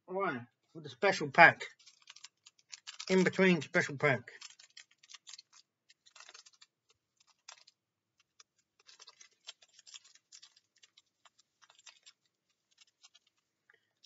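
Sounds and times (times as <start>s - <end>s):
foil wrapper crinkling: 1.6s - 14.0s.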